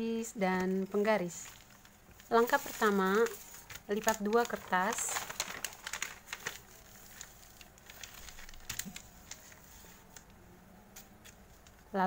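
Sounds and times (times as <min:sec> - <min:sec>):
paper crackling and folding: 0:00.5 - 0:10.4, 0:11.0 - 0:12.0.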